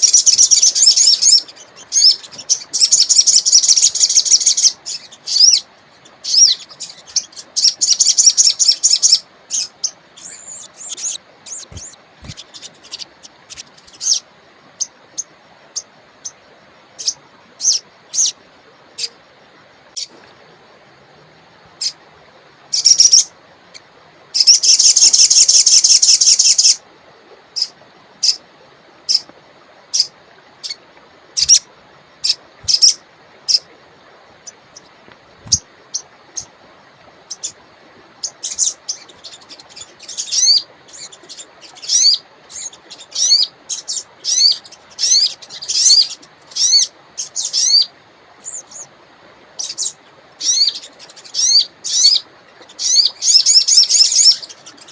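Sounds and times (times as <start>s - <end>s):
songbird chirping and trilling: 0.0s - 19.2s, 22.6s - 26.8s, 29.0s - 54.9s
faint steady hiss: 0.0s - 54.9s.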